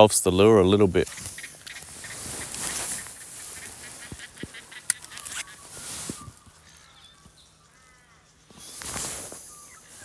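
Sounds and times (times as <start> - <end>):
fishing gear rustling: 1.0 - 10.0.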